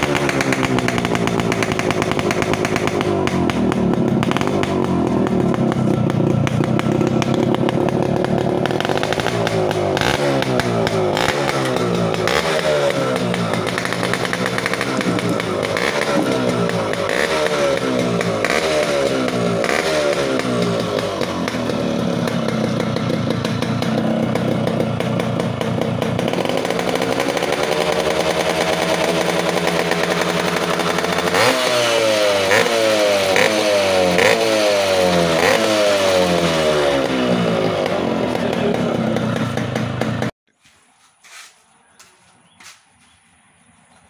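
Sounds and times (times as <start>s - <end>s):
motorcycle engine revving: 0.0s - 40.4s.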